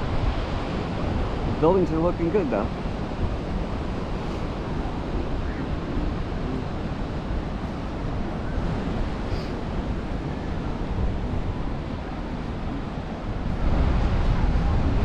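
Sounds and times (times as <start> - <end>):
ocean surf washing onto beach: 0.0 - 15.0
wind rumbling on microphone: 0.0 - 15.0.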